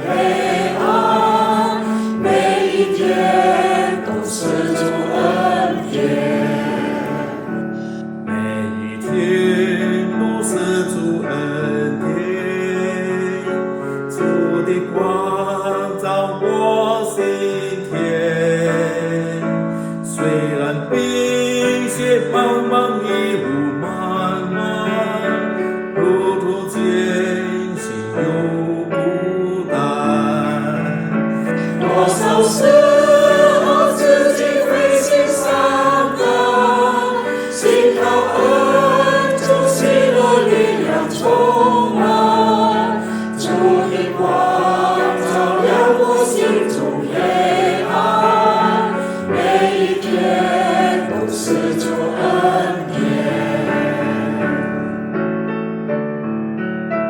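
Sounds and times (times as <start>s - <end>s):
choir singing a hymn: 0.0s - 19.3s, 20.0s - 55.2s.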